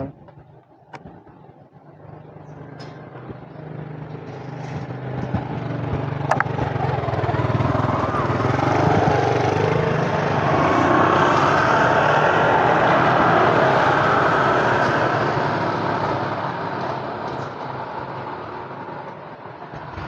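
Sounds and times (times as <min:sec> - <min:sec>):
road noise: 0:00.0 - 0:20.0
vehicle engine driving away: 0:00.0 - 0:20.0.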